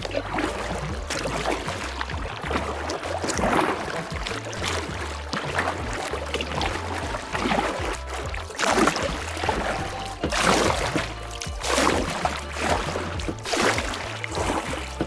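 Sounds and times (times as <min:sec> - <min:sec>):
low rumble: 0:00.0 - 0:15.0
water splashing around kayak: 0:00.0 - 0:15.0.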